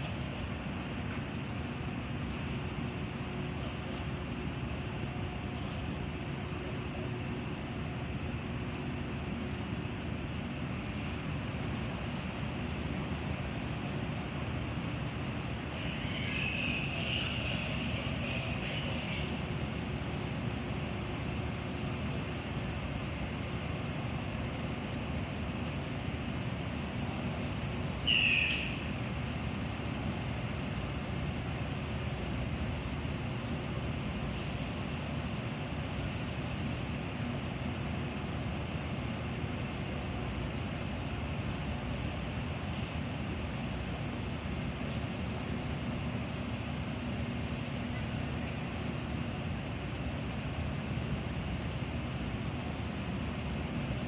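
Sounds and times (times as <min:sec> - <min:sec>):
commuter train running: 0:00.0 - 0:54.0.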